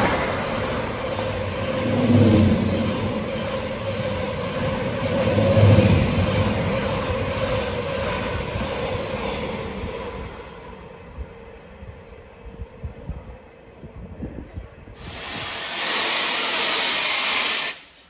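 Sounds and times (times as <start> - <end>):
train passing at speed: 0.0 - 17.9.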